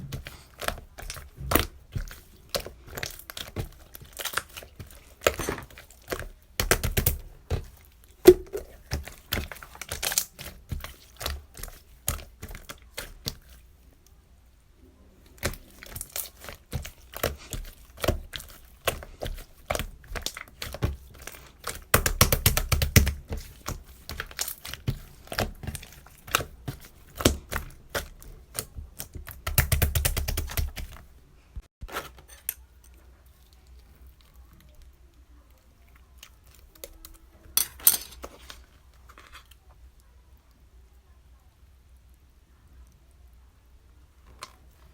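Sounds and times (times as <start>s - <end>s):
clicking and crinkling handling: 0.0s - 14.2s, 15.3s - 29.5s, 31.8s - 40.1s, 44.2s - 44.9s.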